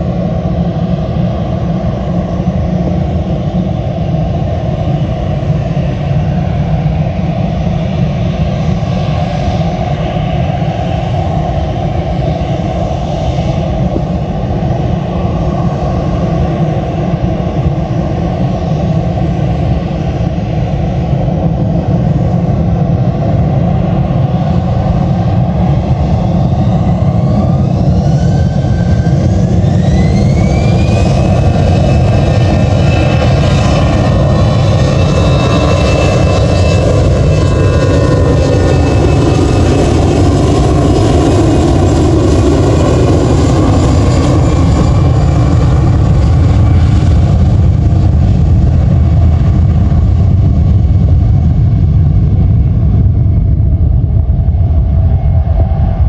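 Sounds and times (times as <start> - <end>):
jet engine whine rising: 0.0 - 56.0
loud continuous rumble: 0.0 - 56.0.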